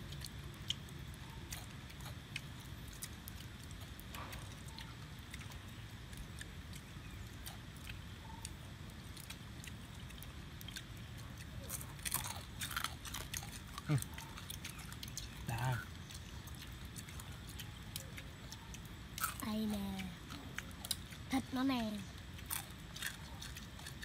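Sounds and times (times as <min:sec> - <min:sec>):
crab shells cracking: 0:00.0 - 0:21.3
low background noise: 0:00.0 - 0:24.0.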